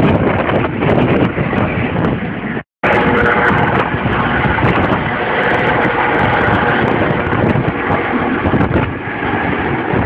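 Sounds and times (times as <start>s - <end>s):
helicopter engine and rotor: 0.0s - 10.0s
wind buffeting microphone: 0.0s - 10.0s.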